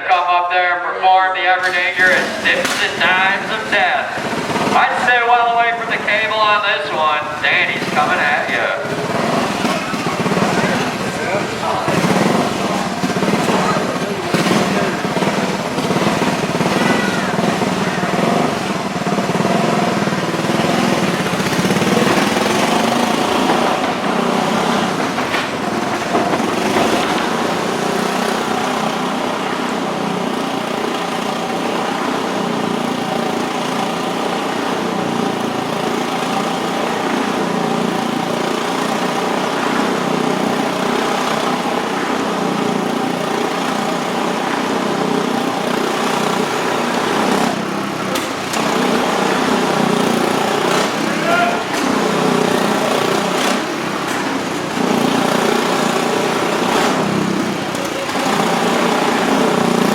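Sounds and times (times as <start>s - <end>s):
motorcycle engine at high revs: 1.6s - 59.9s.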